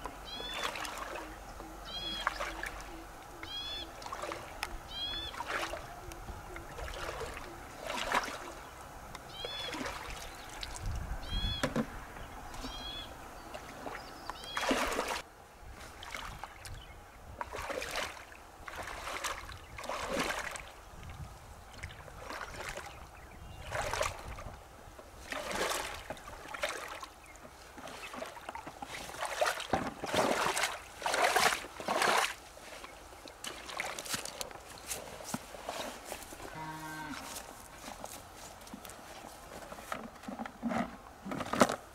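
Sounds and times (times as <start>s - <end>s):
person wading through water: 0.0s - 11.4s, 12.6s - 39.8s.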